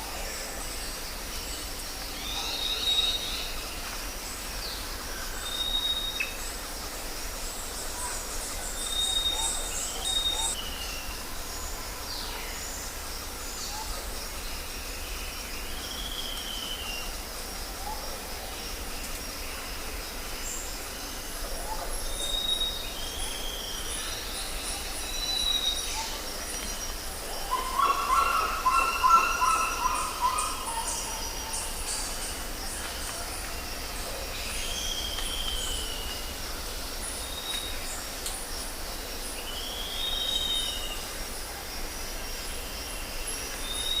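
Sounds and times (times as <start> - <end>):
steady background hiss: 0.0 - 44.0
birds calling with whistled notes: 0.2 - 18.0, 18.8 - 41.3, 42.5 - 44.0.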